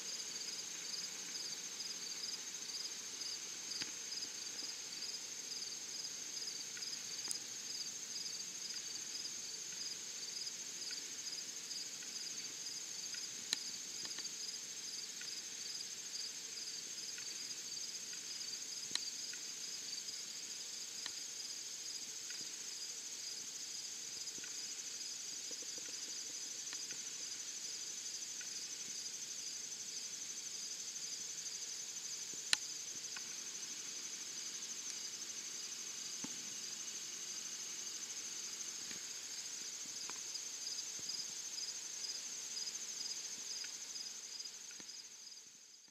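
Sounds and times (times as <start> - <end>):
insects trilling: 0.0 - 45.9
pulsing insect chirp: 0.0 - 45.9.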